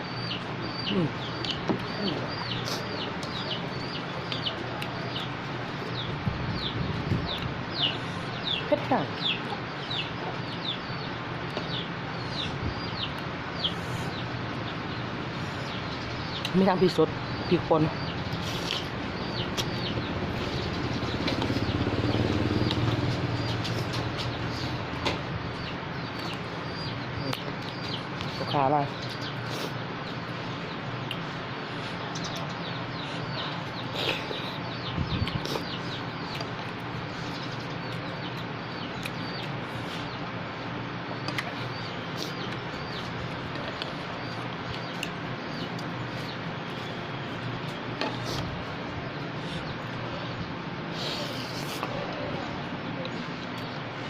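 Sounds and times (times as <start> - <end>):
chicks peeping: 0.0 - 54.0
road traffic engine hum: 0.0 - 54.0
small birds chirping: 0.0 - 54.0.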